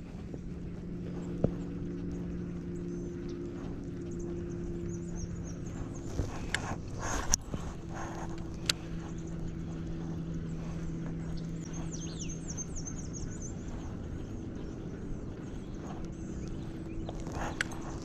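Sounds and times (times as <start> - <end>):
bird chirping: 0.0 - 18.0
steady low hum: 0.0 - 18.0.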